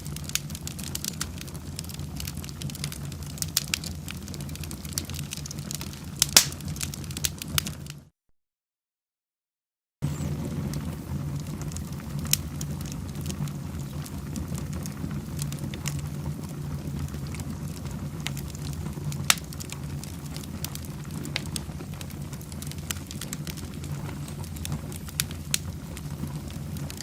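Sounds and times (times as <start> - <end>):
sharp fire pops: 0.0 - 8.0, 10.1 - 27.0
fire crackling: 0.0 - 8.1, 10.0 - 27.0.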